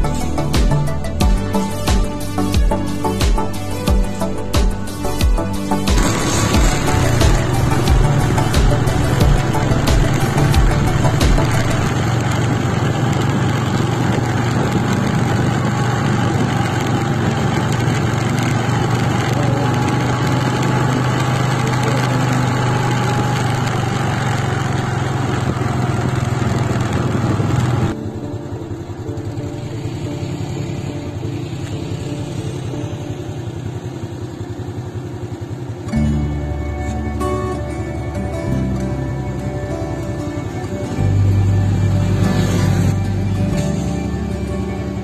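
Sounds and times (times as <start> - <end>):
background music: 0.0 - 26.2, 27.0 - 34.8, 35.8 - 45.0
motorcycle engine cruising: 0.0 - 45.0
road and wind noise: 0.0 - 45.0.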